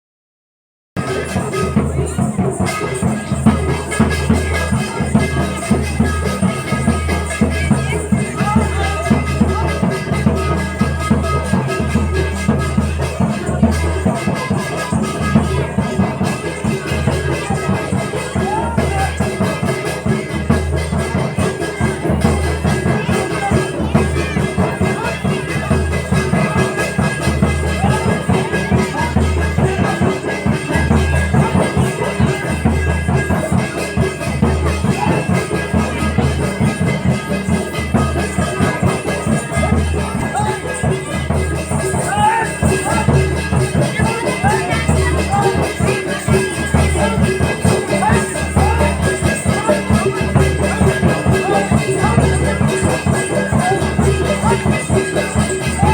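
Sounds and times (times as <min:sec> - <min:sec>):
drum beaten in dense rhythm: 0:01.0 - 0:55.9
ringing metallic strokes: 0:01.0 - 0:55.9.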